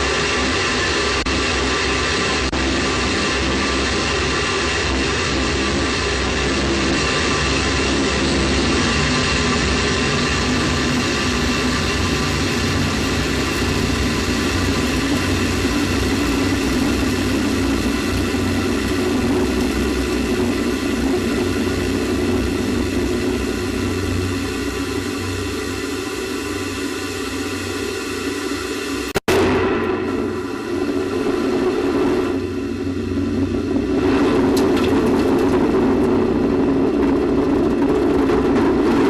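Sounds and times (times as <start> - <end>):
rocket rumbling roar: 0.0 - 26.7, 29.3 - 39.0
whining tones: 0.0 - 39.0.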